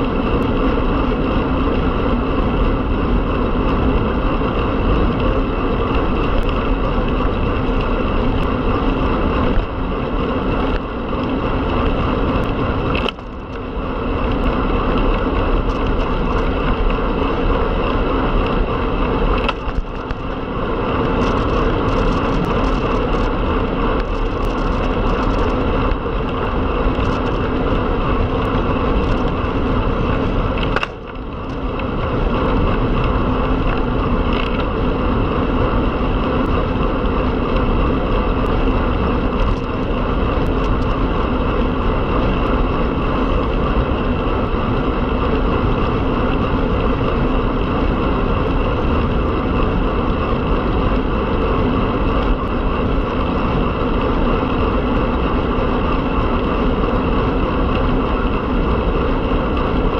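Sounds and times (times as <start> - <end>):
bicycle tyre noise: 0.0 - 59.9.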